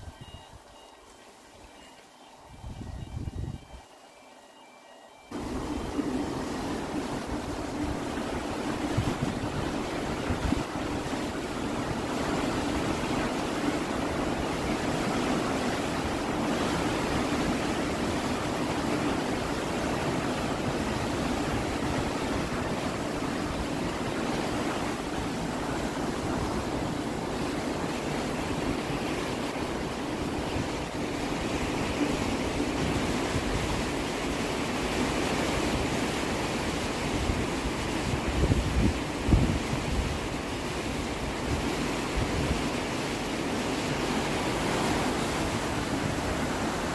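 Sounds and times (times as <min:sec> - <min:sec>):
water rushing through sluices: 0:05.3 - 0:46.9.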